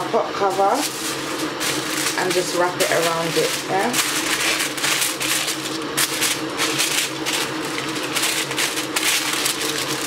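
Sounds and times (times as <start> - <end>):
aluminium foil crinkling: 0.4 - 10.0.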